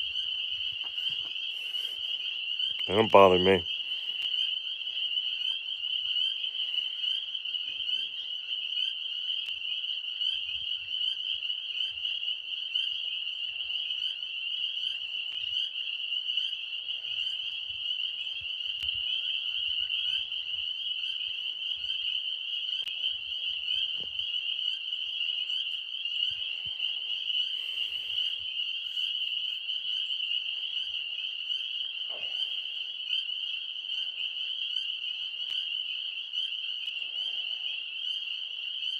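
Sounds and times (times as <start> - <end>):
tree frogs trilling: 0.0 - 38.9.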